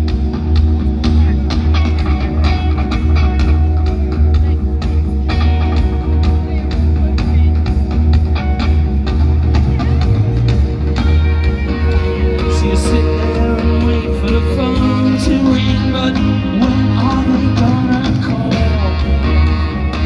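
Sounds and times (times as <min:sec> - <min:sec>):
rock band through loud pa: 0:00.0 - 0:20.0.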